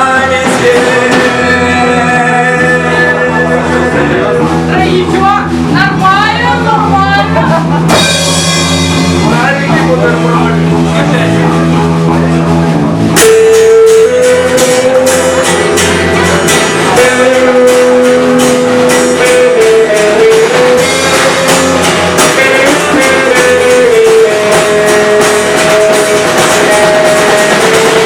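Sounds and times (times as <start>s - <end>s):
lead instrument melody: 0.0s - 28.0s
steady drum beat: 0.0s - 28.0s.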